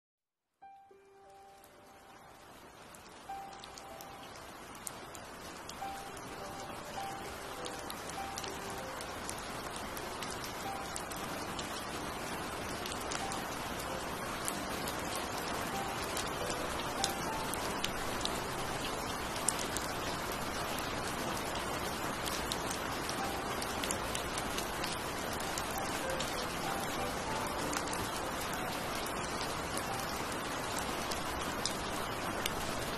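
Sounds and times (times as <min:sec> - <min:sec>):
heavy rain pouring: 0:01.0 - 0:32.9
raindrops tapping: 0:01.5 - 0:32.9.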